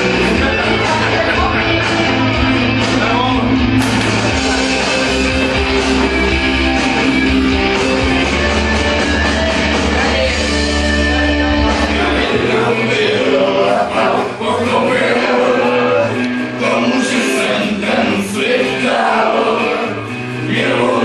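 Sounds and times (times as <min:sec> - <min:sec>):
rock song with guitar and singing: 0:00.0 - 0:21.0.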